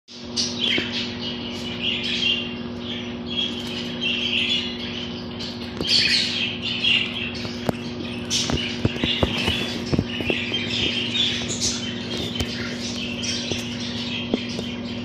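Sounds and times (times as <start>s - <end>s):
steady low hum: 0.1s - 15.0s
budgerigar chirping and warbling: 0.3s - 15.0s.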